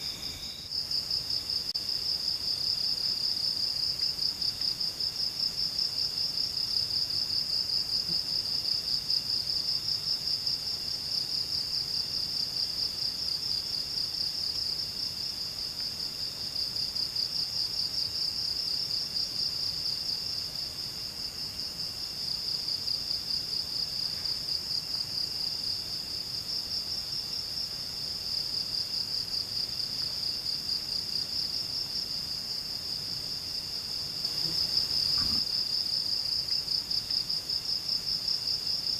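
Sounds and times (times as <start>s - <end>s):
night insects trilling: 0.0s - 38.9s.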